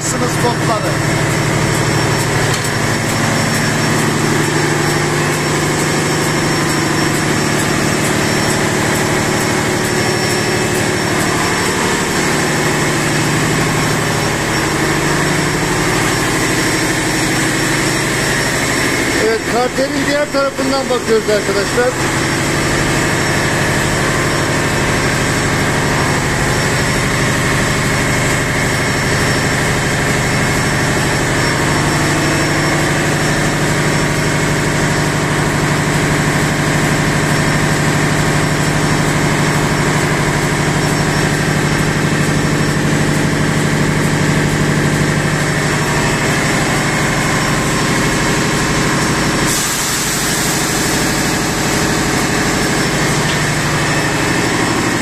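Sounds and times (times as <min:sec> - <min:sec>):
engine room machinery drone: 0:00.0 - 0:55.0.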